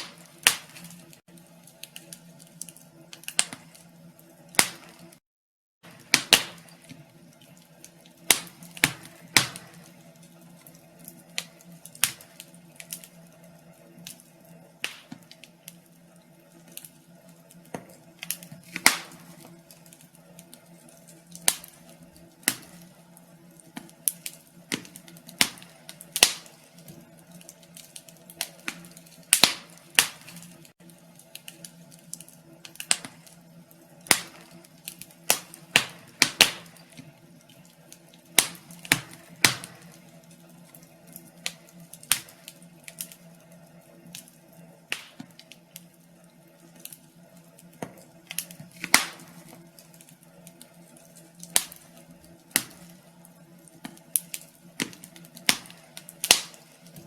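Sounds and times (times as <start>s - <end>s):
wood fire crackling: 0.0s - 5.2s, 5.8s - 57.0s.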